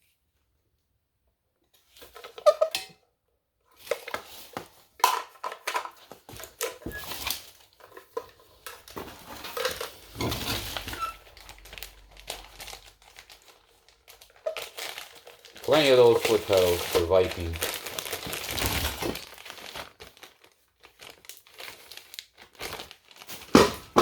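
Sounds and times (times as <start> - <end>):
plastic bag rustling: 3.7 - 24.0.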